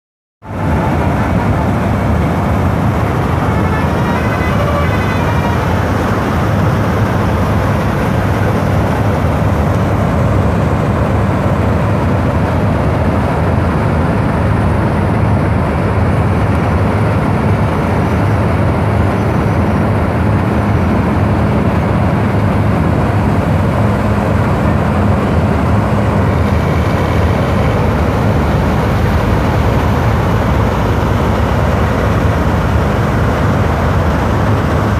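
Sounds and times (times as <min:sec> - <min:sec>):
combine harvester engines running: 0:00.4 - 0:34.9.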